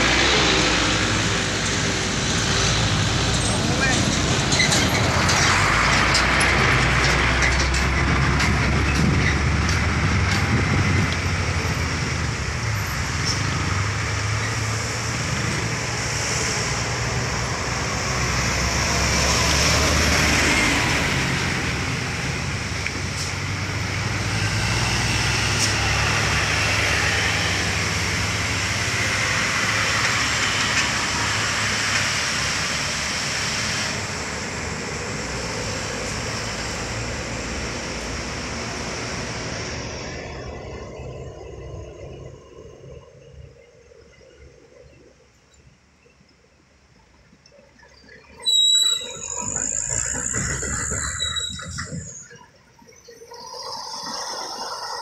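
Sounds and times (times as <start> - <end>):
trucks passing: 0.0 - 55.0.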